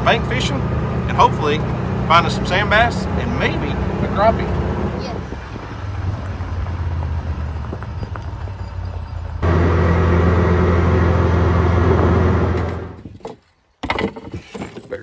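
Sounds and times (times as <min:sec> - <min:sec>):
vehicle engine hum: 0:00.0 - 0:13.1
wind and tyre noise: 0:00.0 - 0:15.0.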